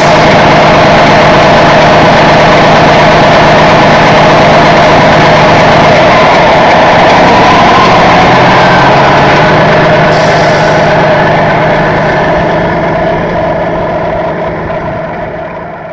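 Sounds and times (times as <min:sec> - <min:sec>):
truck engine idling: 0:00.0 - 0:15.9.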